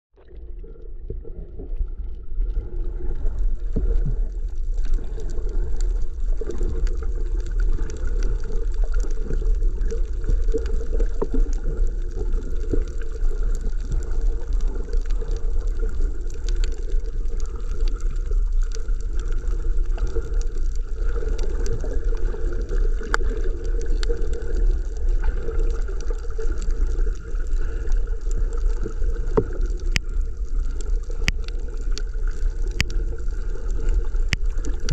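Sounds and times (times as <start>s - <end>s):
muffled underwater rumble of water: 0.1s - 34.9s.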